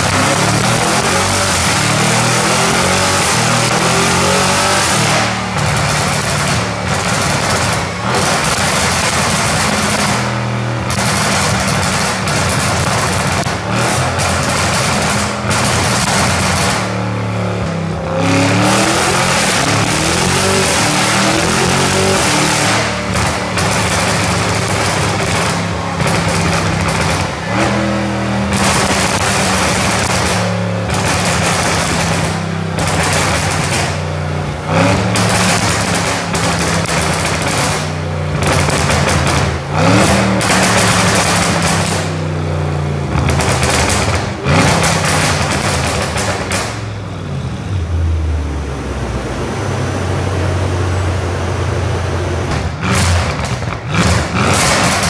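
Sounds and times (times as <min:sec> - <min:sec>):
exhaust crackling and banging: 0:00.0 - 0:47.1, 0:52.3 - 0:55.0
car engine revving: 0:00.0 - 0:55.0.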